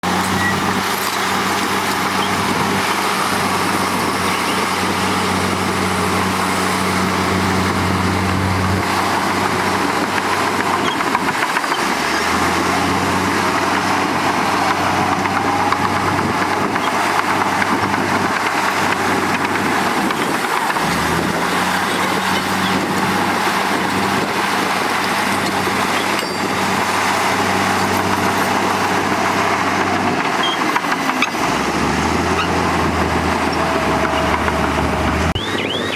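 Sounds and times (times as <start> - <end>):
heavy diesel engines running: 0.0 - 35.9.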